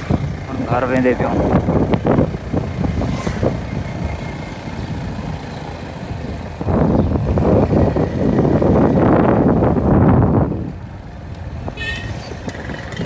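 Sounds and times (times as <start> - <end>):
vehicle engine running: 0.0 - 13.0
wind and road rumble: 0.0 - 13.0.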